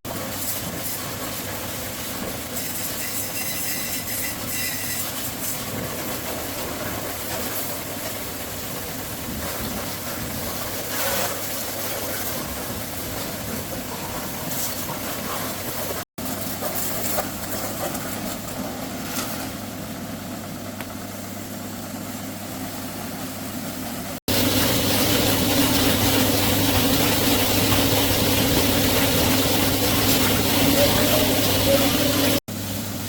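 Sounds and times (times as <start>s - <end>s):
engine running: 5.0s - 33.0s.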